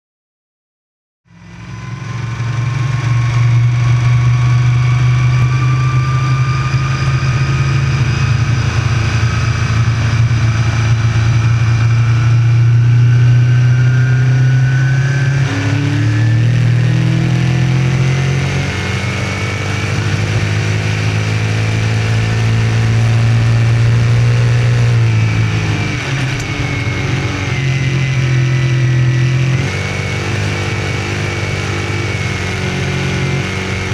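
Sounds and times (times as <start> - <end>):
race car engine at speed: 1.3 - 33.9.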